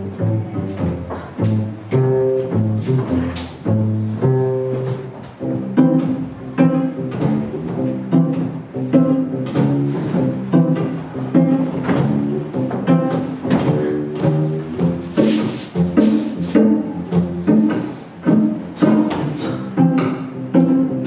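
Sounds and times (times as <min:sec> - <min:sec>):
cello playing lively tune: 0:00.0 - 0:21.0.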